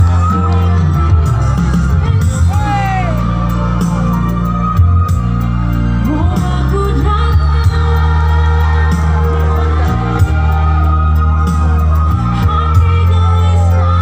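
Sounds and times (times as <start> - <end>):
heavy bass line: 0.0 - 14.0
live pop band music: 0.0 - 14.0.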